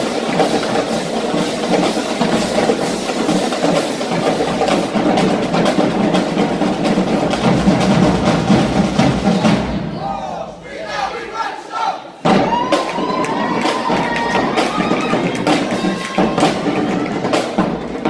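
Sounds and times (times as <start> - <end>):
bass drums: 0.0 - 10.2, 12.2 - 18.0
snare drums: 0.0 - 18.0.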